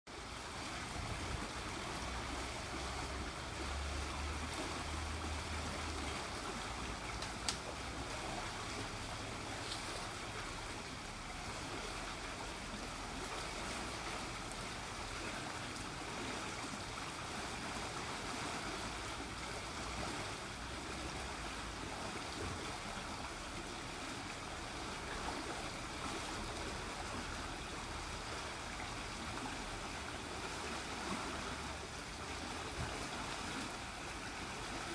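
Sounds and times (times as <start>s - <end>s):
stream rushing and bubbling: 0.1s - 34.9s.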